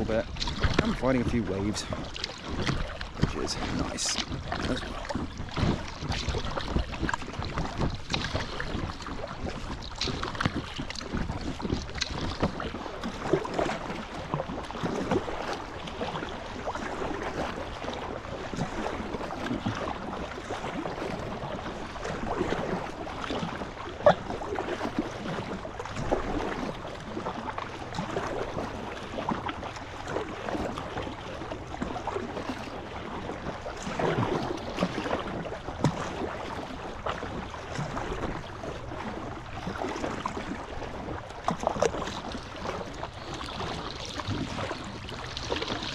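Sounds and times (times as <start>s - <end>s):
paddle strokes splashing: 0.0s - 45.9s
small waves slapping hull: 0.0s - 45.9s.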